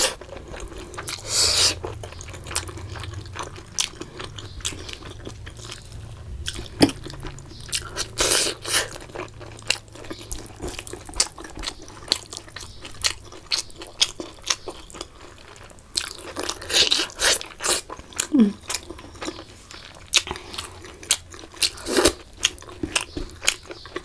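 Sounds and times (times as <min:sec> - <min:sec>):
wet chewing and mouth smacks: 0:00.0 - 0:24.0.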